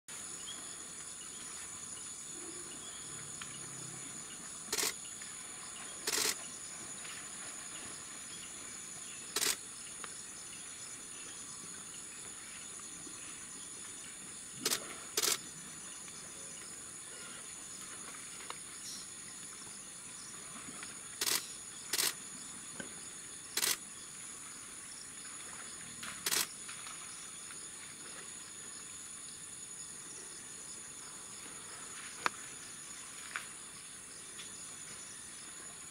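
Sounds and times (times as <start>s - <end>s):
insect chorus: 0.1s - 35.9s.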